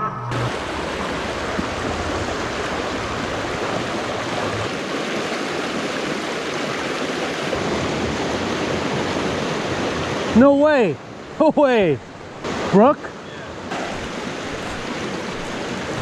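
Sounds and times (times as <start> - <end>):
stream rushing over boulders: 0.3 - 16.0.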